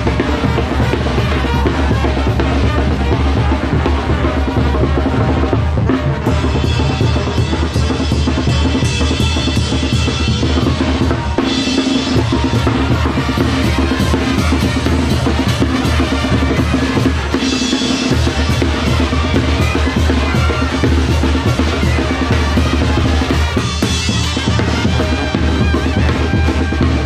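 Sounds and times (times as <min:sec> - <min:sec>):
bass drums with cymbals: 0:00.0 - 0:27.0
marching brass band playing: 0:00.0 - 0:27.0
snare drums: 0:00.0 - 0:27.0.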